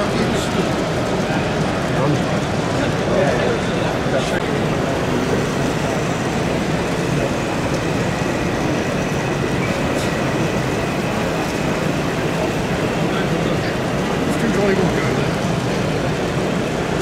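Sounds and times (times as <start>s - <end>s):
exhibition hall background noise: 0.0s - 17.0s
model train running on track: 0.0s - 17.0s.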